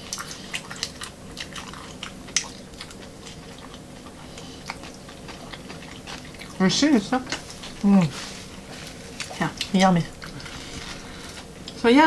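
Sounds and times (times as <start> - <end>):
chewing and crunching bread: 0.0 - 11.9.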